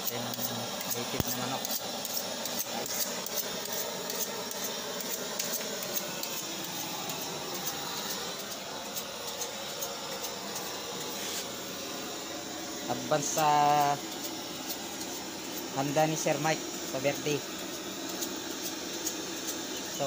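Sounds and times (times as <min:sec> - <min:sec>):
blowtorch hissing: 0:00.0 - 0:20.0.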